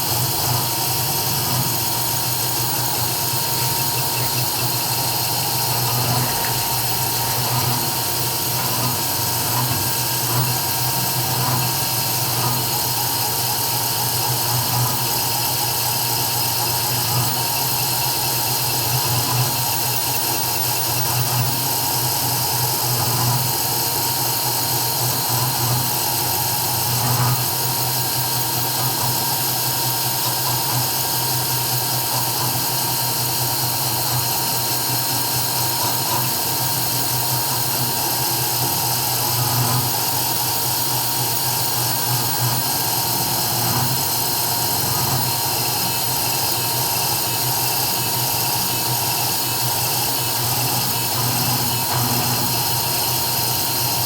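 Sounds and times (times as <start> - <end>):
engraving machine spindle whine: 0.0 - 54.0.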